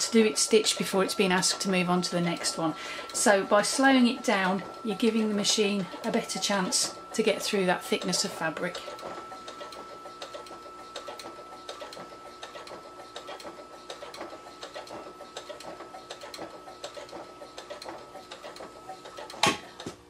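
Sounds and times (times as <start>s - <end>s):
sewing machine motor whine: 0.0s - 19.9s.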